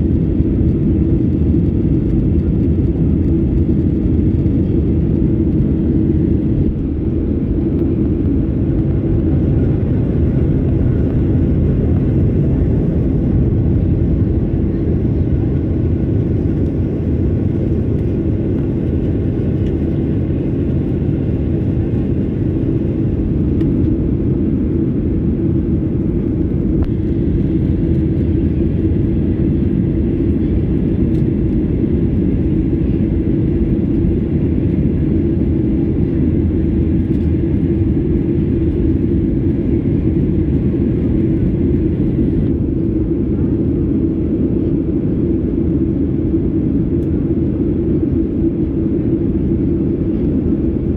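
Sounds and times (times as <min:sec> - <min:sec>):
airplane cabin engine rumble: 0:00.0 - 0:50.9
constant low hum: 0:00.0 - 0:50.9.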